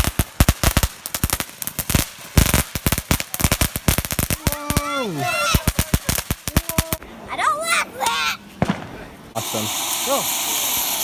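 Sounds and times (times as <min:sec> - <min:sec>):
firecrackers banging: 0:00.0 - 0:07.2, 0:08.0 - 0:11.0.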